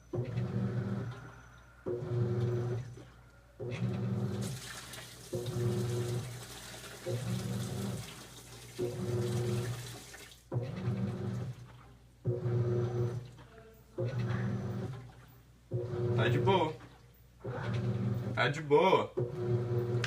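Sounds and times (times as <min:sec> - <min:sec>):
washing machine motor humming: 0:00.0 - 0:20.0
water sloshing in tub: 0:00.1 - 0:18.5.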